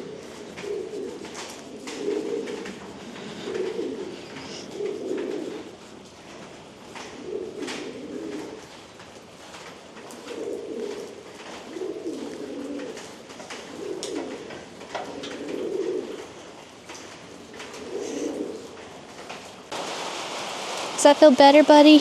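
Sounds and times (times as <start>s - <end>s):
pigeons cooing: 0.0s - 19.7s.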